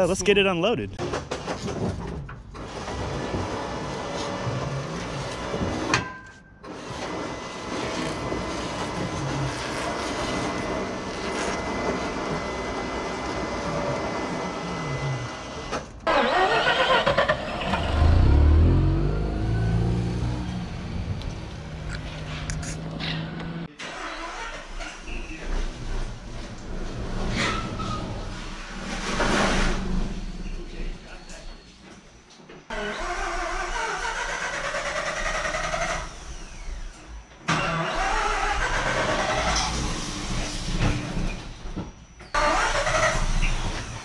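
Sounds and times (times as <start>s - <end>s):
rotary engine starting and idling: 6.6s - 31.4s, 32.7s - 44.0s.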